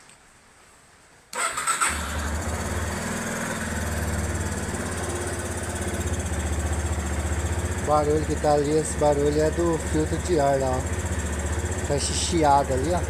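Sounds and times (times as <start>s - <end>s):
motorcycle engine starting and idling: 1.4s - 13.0s.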